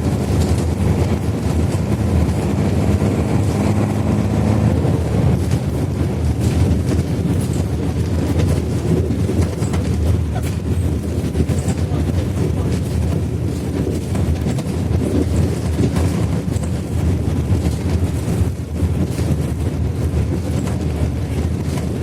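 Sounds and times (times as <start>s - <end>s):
bus engine pulling hard: 0.0s - 22.0s
light rattles and clicks: 0.0s - 22.0s.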